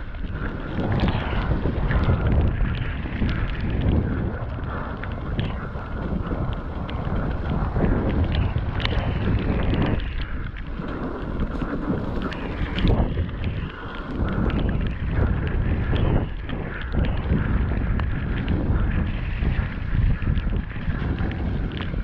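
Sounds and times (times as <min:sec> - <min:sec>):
bike tyre noise: 0:00.0 - 0:22.0
wind rumbling on microphone: 0:00.0 - 0:22.0.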